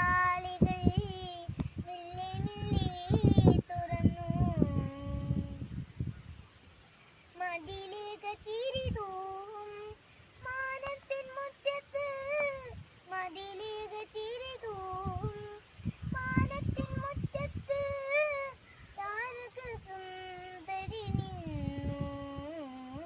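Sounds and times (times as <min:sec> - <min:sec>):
girl singing: 0:00.0 - 0:05.8, 0:07.3 - 0:23.0.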